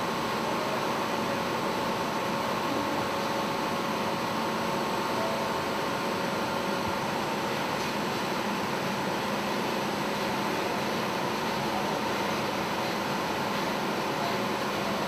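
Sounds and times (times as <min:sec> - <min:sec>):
industrial machinery drone: 0:00.0 - 0:15.0.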